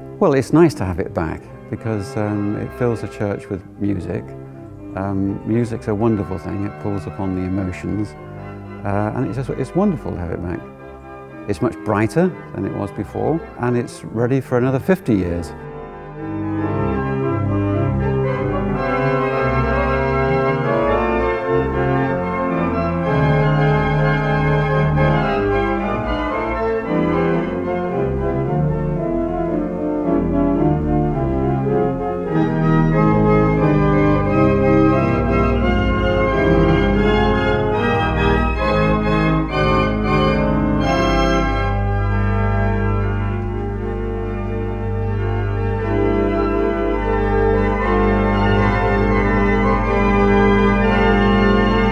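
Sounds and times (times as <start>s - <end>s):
long-held organ bass note: 0.0s - 51.9s
pipe organ playing chords: 0.0s - 51.9s.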